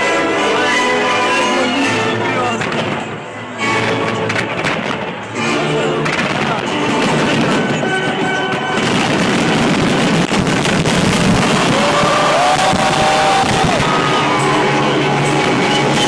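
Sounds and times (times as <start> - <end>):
loud music: 0.0 - 16.0
fireworks bursting and crackling: 2.4 - 16.0.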